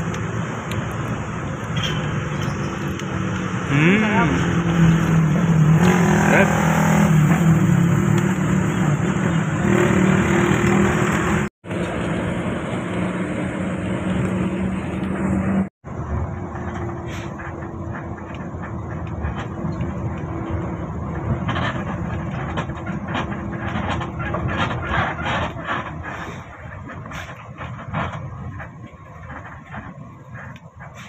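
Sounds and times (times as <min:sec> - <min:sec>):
bus engine drone: 0:00.0 - 0:31.0
road noise: 0:00.0 - 0:31.0.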